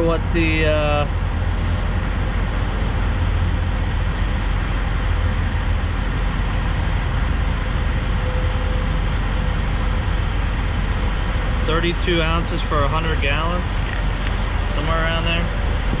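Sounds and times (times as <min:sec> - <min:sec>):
engines idling: 0:00.0 - 0:16.0.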